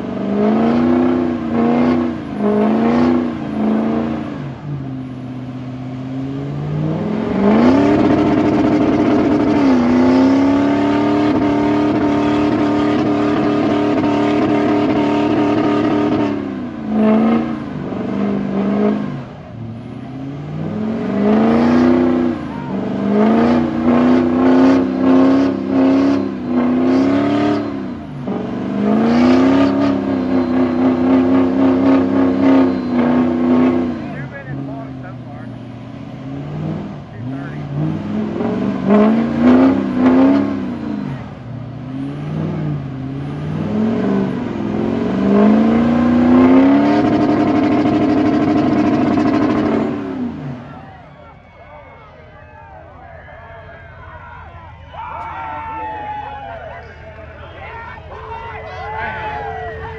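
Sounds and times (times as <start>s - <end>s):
truck engine revving hard: 0.0s - 59.9s.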